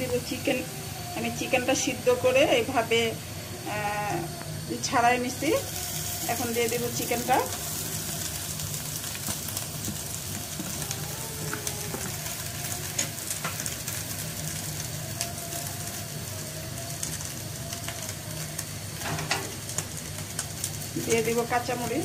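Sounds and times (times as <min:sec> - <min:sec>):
chicken and onions sizzling in oil: 0:00.0 - 0:22.0.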